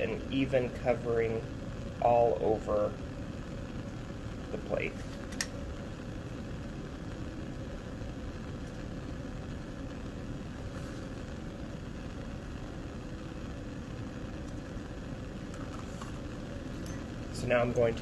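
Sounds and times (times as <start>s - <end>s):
faint hum: 0.0s - 18.0s
steady rushing noise: 0.0s - 18.0s.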